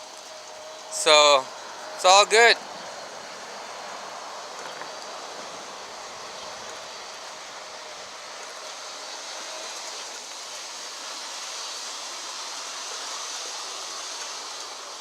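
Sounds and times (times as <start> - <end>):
model train wheels rolling on rail: 0.0 - 15.0.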